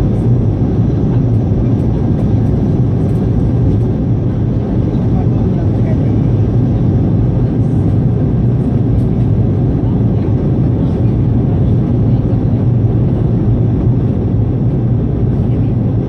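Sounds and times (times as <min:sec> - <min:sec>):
airplane cabin roar: 0:00.0 - 0:16.0
low hum: 0:00.0 - 0:16.0.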